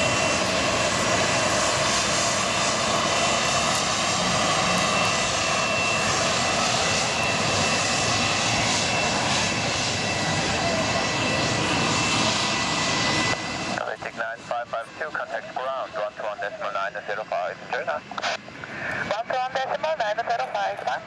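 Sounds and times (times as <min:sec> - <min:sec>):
jet airliner taxiing: 0:00.0 - 0:21.0.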